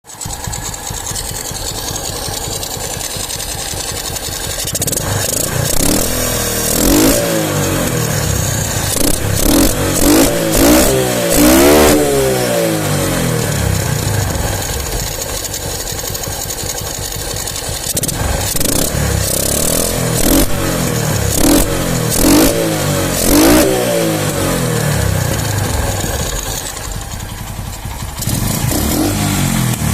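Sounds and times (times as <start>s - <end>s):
motorcycle engine idling and revving: 0.0s - 29.9s.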